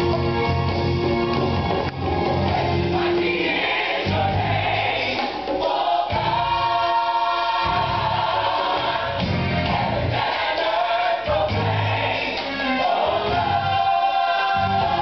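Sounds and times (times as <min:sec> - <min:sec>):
gospel choir singing with band: 0:01.9 - 0:15.0.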